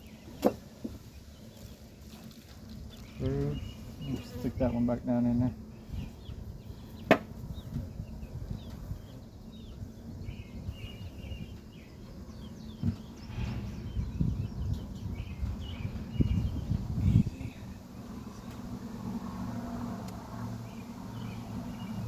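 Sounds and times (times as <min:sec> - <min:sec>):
birds chirping: 0:00.0 - 0:22.0
wind buffeting microphone: 0:02.6 - 0:22.0.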